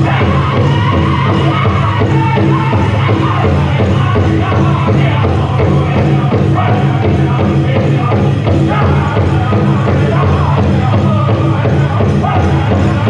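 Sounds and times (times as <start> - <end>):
big drum beating: 0.0 - 13.0
men singing: 0.0 - 13.0.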